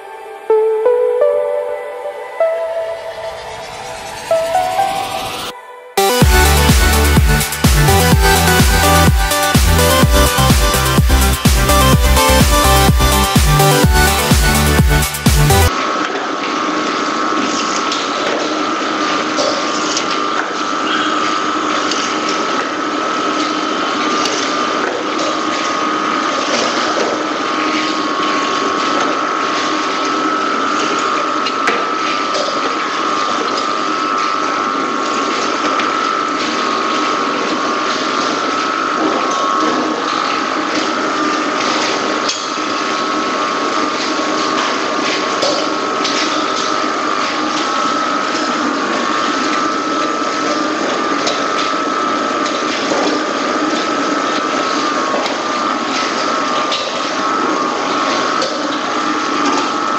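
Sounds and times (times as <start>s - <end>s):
machinery whine: 0.0s - 59.9s.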